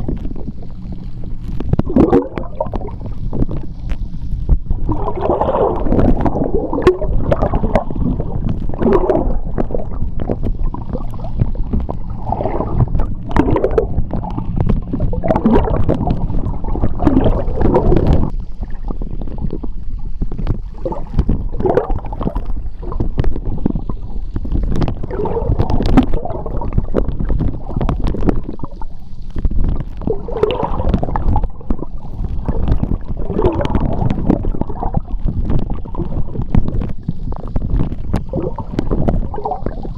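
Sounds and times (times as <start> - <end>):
gurgling bubble bursts: 0.0 - 39.9
sharp underwater clicks: 0.0 - 39.9
underwater rumble of moving water: 0.0 - 39.9.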